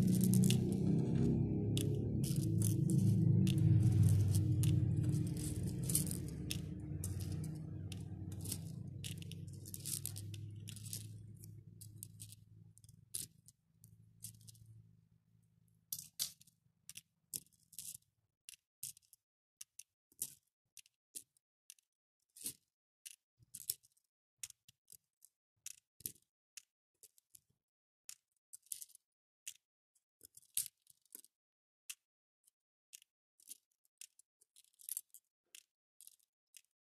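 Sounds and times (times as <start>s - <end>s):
beads clicking on plastic: 0.0s - 14.7s, 16.0s - 27.4s, 28.1s - 29.6s, 30.2s - 31.3s, 31.9s - 36.8s.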